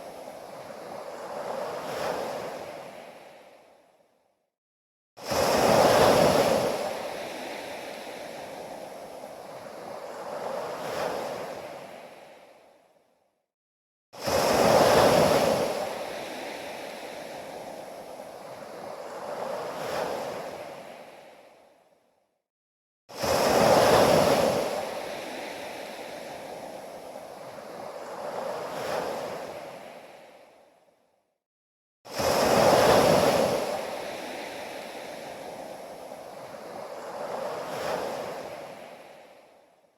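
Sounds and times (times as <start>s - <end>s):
ocean waves washing in: 0.0s - 3.9s, 5.2s - 12.9s, 14.2s - 21.9s, 23.1s - 30.9s, 32.1s - 39.8s.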